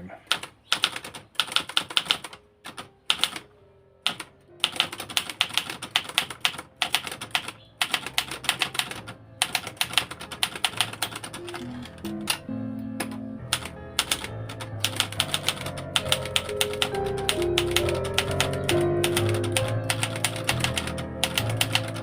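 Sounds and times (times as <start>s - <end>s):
manual typewriter typing: 0.3s - 3.4s, 4.1s - 12.4s, 13.0s - 22.0s.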